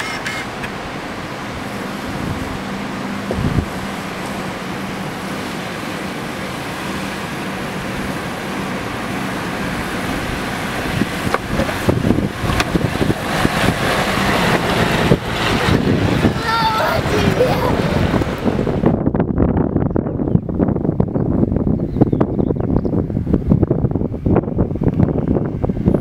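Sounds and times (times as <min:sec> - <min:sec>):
car engine hum: 0:00.0 - 0:26.0
road noise: 0:00.0 - 0:26.0.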